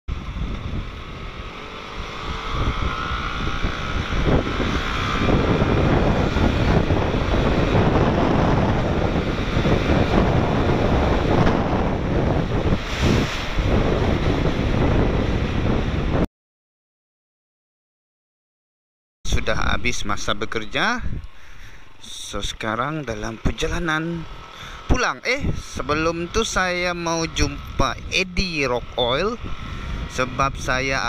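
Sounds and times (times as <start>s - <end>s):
traffic: 0.1s - 16.2s, 19.3s - 31.0s
wind buffeting microphone: 0.1s - 16.3s, 19.3s - 31.0s.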